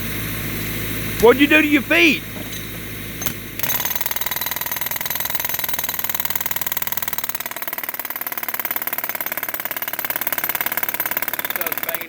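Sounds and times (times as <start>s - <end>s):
jackhammer breaking concrete: 2.3s - 12.0s.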